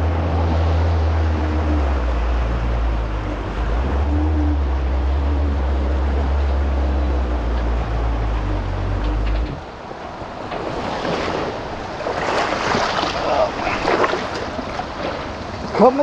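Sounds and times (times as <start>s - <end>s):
hull spray and wind rushing: 0.0s - 16.0s
jet ski engine drone: 0.0s - 16.0s.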